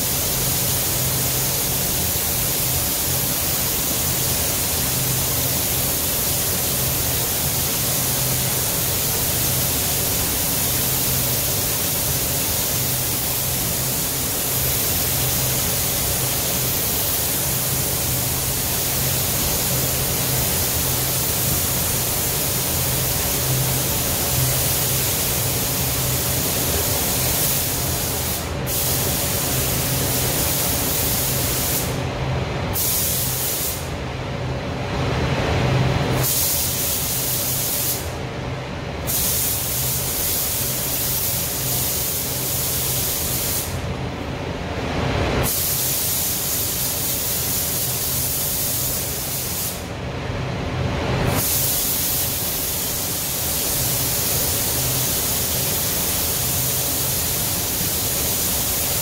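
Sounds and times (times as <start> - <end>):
paint spray gun hissing: 0.0 - 32.0, 32.8 - 33.9, 36.2 - 38.1, 39.1 - 43.8, 45.4 - 49.8, 51.3 - 59.0
ventilation drone: 0.0 - 59.0.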